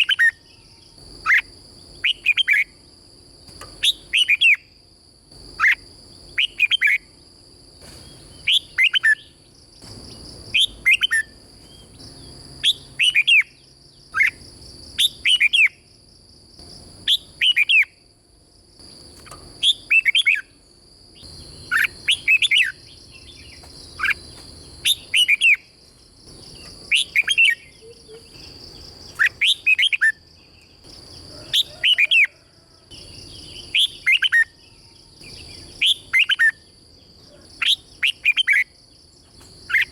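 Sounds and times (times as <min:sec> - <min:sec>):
bird singing: 0:00.0 - 0:03.0, 0:03.6 - 0:04.8, 0:05.4 - 0:07.2, 0:07.8 - 0:15.9, 0:17.0 - 0:18.0, 0:19.2 - 0:39.9.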